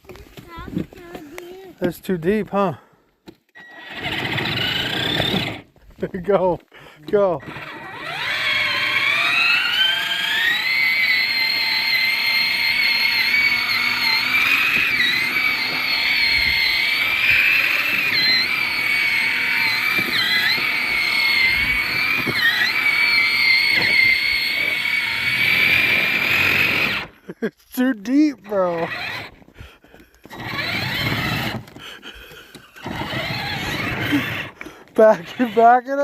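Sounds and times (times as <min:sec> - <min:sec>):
vehicle motor whining: 0:03.5 - 0:05.8, 0:07.0 - 0:27.2, 0:28.3 - 0:36.0.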